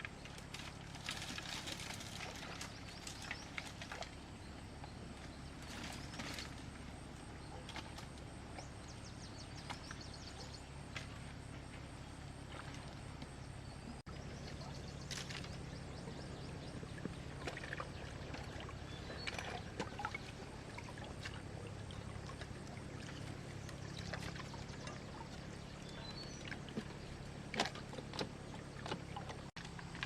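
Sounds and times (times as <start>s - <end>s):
low hum: 0.0s - 30.0s
small splashes and knocks: 0.0s - 30.0s
water sloshing and trickling: 0.0s - 30.0s.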